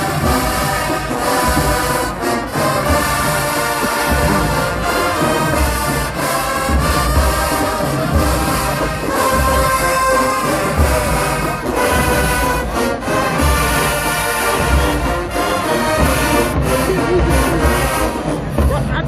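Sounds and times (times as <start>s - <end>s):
brass sustained chords: 0.0s - 19.0s
marching band playing: 0.0s - 19.0s.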